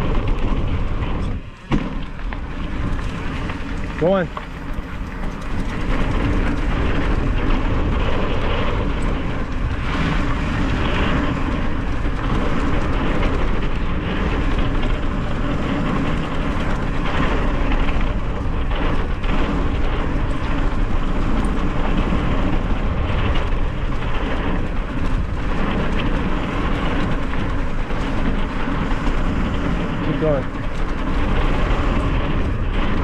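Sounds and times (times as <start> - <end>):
bike tyres on dirt trail: 0.0 - 33.0
wind rumble on microphone: 0.0 - 33.0.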